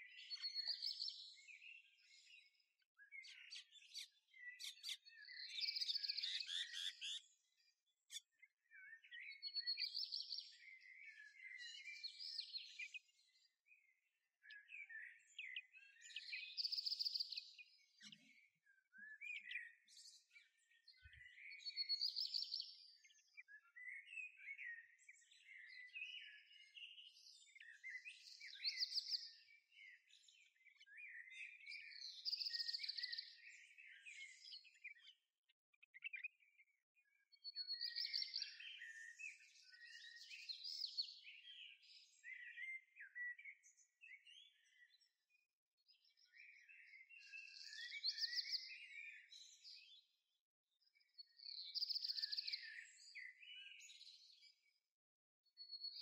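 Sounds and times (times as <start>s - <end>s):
quiet bird twittering: 0.0s - 50.1s, 50.8s - 54.8s.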